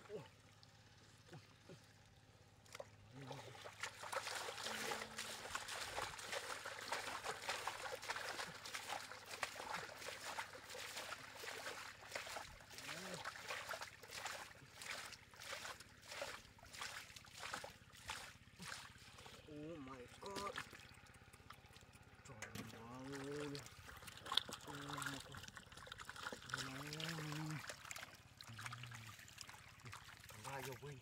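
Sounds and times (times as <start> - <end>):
muddy water splashing: 0.0 - 31.0.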